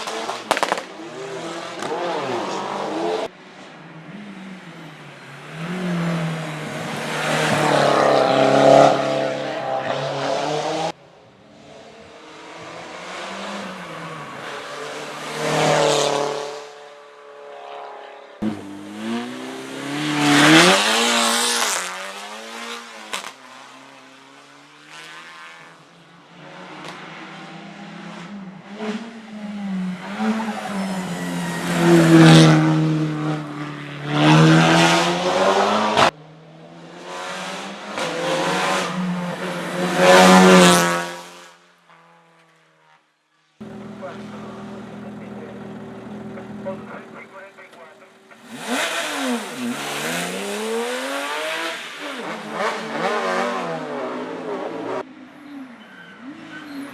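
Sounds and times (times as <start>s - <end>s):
race cars accelerating past: 0.0s - 41.6s, 43.6s - 56.9s.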